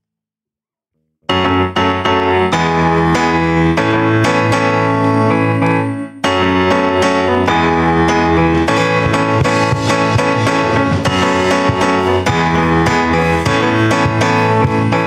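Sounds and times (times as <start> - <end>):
electric keyboard chords: 1.2 - 15.0
low bass line: 2.6 - 15.0.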